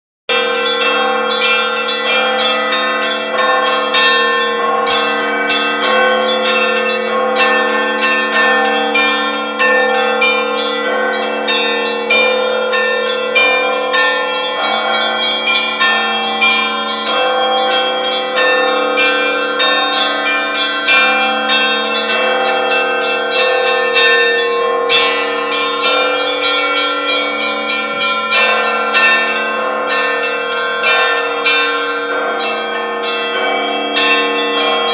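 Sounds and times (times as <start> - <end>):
hum of large bells: 0.3 - 34.9
small bells struck rapidly: 0.3 - 34.9.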